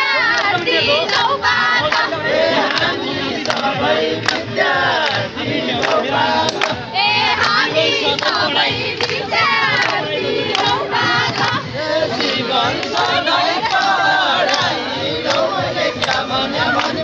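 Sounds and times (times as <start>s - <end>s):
crowd singing: 0.0s - 17.0s.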